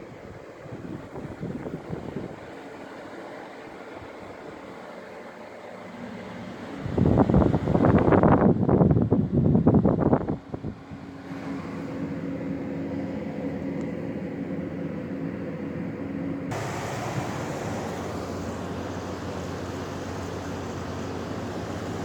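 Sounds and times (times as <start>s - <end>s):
air conditioner fan rush: 0.0s - 22.0s
air conditioner hum: 0.0s - 22.0s.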